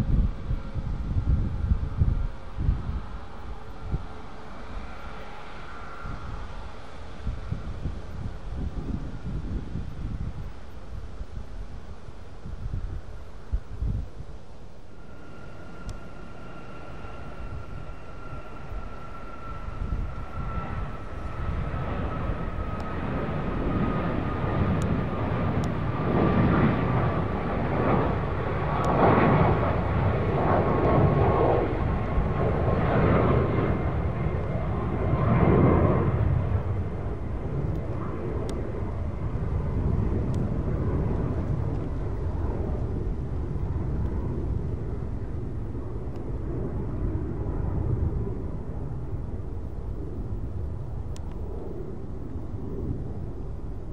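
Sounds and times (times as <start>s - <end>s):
jet engine rumble: 0.0s - 53.9s
jet engine whine: 0.0s - 53.9s.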